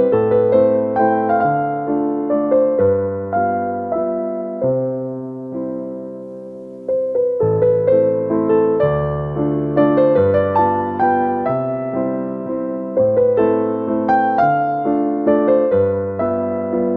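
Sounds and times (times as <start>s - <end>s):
solo piano melody: 0.0s - 16.9s.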